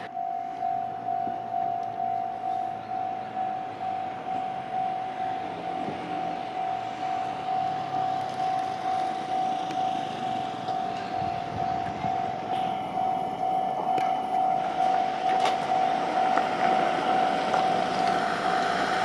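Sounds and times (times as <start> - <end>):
level crossing alarm ringing: 0.0 - 19.0
train rumble: 0.0 - 19.0.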